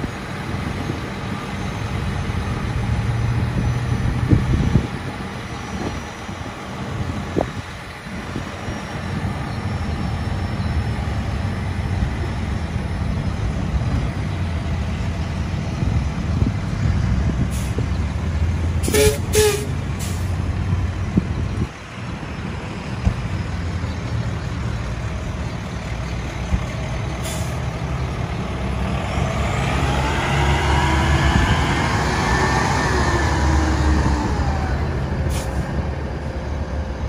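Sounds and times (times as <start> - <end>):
truck diesel engine passing: 0.0 - 37.0.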